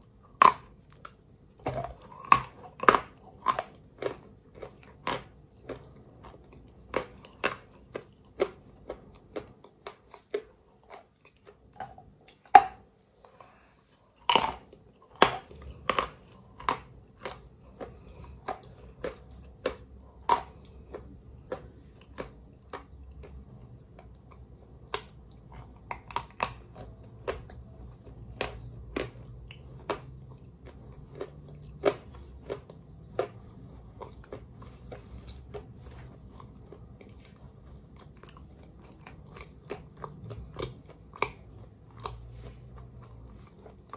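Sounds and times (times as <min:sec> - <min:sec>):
chalk crunching when chewed: 0:00.0 - 0:43.9.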